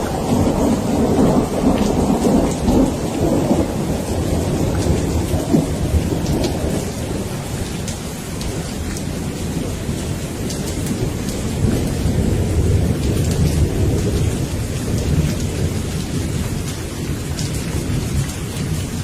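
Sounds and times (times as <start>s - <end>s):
low thunder rumble: 0.0s - 19.0s
rain falling: 0.0s - 19.0s.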